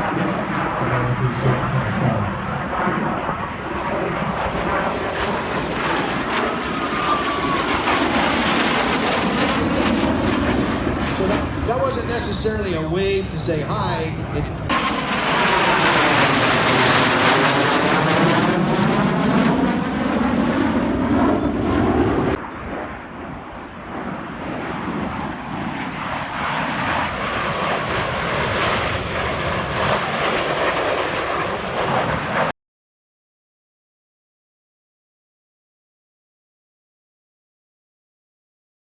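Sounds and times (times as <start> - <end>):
jet engines passing: 0.0 - 32.5
steady jet noise: 0.0 - 32.5.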